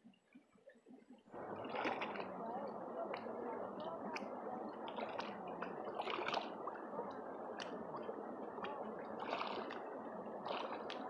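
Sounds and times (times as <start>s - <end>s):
muddy water sloshing and squelching: 0.0s - 11.0s
water splashes: 0.0s - 11.0s.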